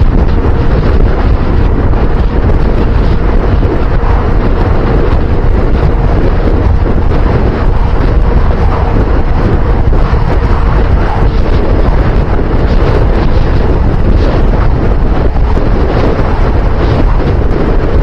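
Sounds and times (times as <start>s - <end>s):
wind buffeting on microphone: 0.0s - 18.0s.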